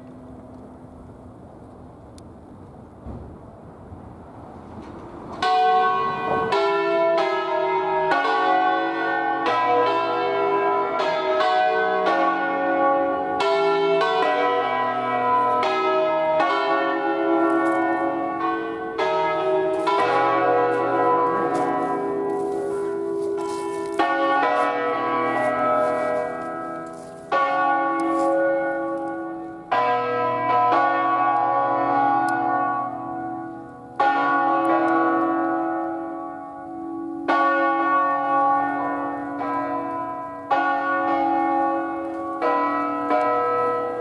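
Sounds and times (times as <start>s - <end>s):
church bells pealing: 5.3s - 44.0s.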